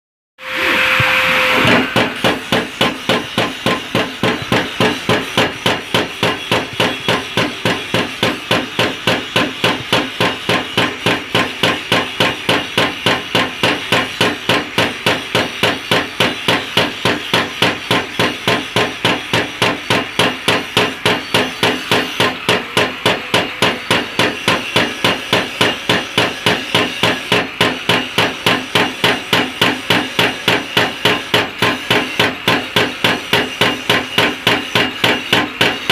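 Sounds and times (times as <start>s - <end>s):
power hammer striking: 0.5s - 35.9s.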